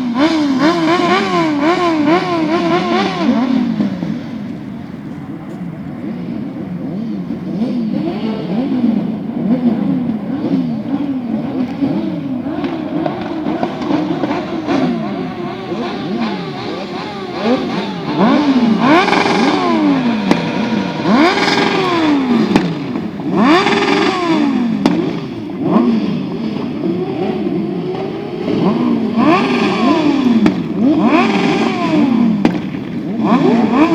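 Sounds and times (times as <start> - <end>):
motorcycle engines revving: 0.0 - 33.9.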